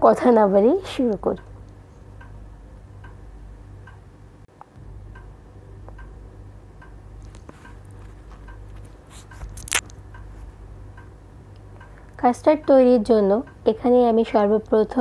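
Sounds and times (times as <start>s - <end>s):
low steady hum: 0.0s - 15.0s
faint regular ticking: 0.6s - 15.0s.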